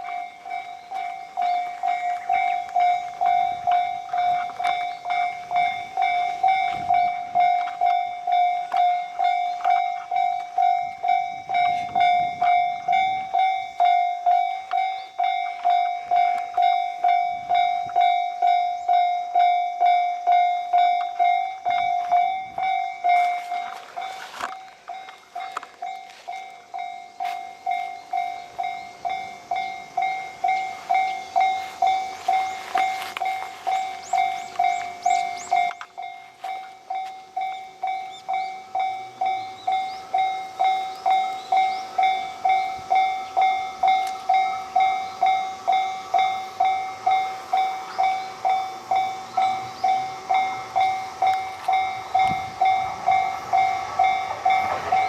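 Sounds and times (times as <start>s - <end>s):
level crossing warning bell: 0.0s - 55.0s
train wheels clattering: 0.0s - 55.0s.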